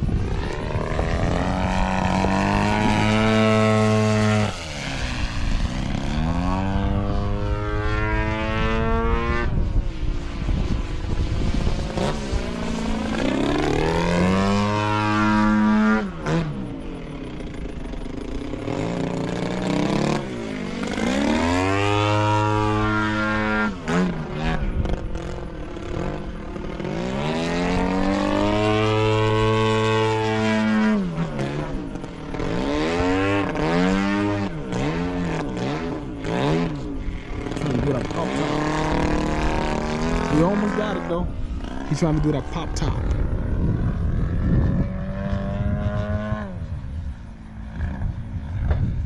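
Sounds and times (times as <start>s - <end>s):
model airplane engine passing overhead: 0.0s - 49.0s.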